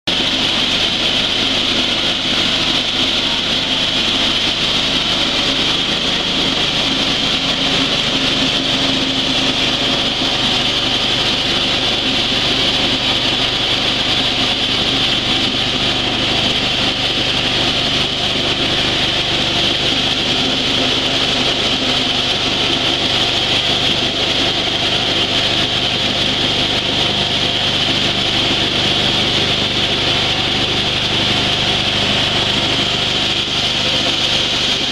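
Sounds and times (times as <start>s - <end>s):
coffee huller mechanical drone: 0.1s - 34.9s.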